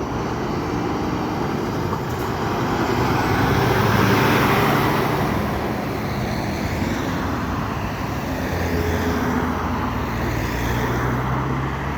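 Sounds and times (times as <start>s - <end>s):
passing vehicles: 0.0s - 11.9s.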